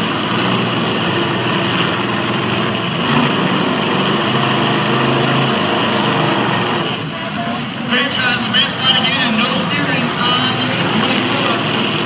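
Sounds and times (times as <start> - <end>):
arena noise: 0.0 - 12.0
car engines running: 0.0 - 12.0.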